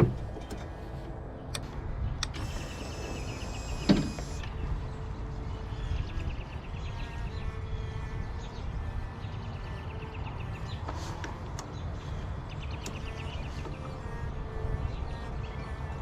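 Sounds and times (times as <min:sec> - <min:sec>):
electric whir: 0:00.0 - 0:16.0.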